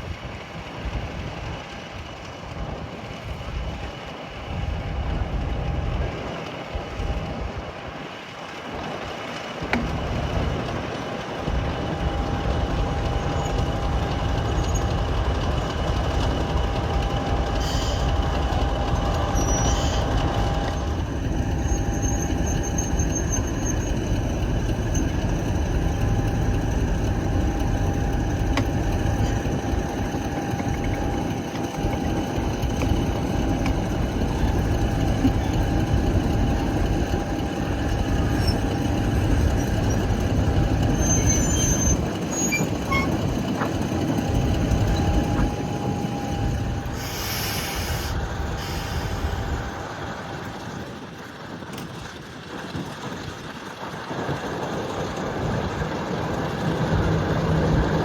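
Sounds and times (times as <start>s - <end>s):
constant high whine: 0.0s - 52.2s
train rumbling: 0.0s - 58.0s.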